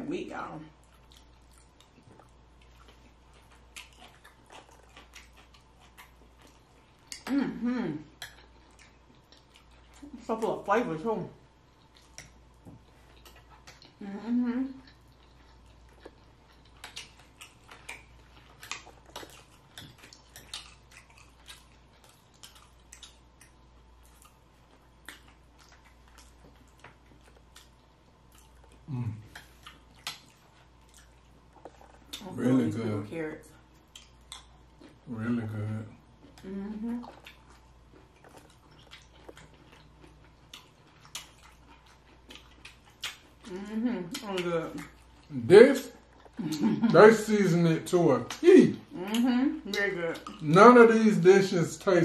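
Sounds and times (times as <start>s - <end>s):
person chewing with lips smacking: 0.8s - 10.6s, 11.7s - 32.4s, 33.6s - 52.0s.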